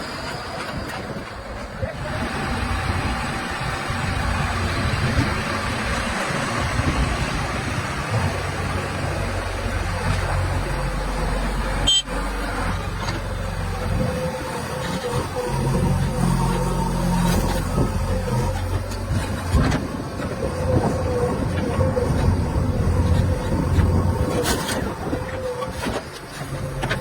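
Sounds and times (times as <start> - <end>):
heavy vehicle engines running: 0.0 - 27.0
traffic noise: 0.0 - 27.0.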